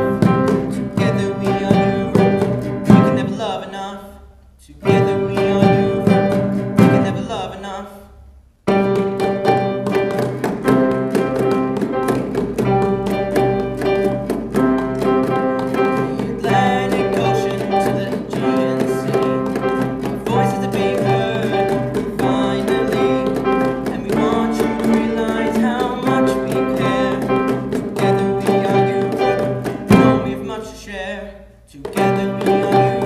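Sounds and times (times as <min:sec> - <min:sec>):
acoustic guitars strumming: 0:00.0 - 0:04.0, 0:04.8 - 0:07.9, 0:08.6 - 0:31.2, 0:31.8 - 0:33.0
person singing: 0:00.0 - 0:08.1, 0:08.7 - 0:33.0.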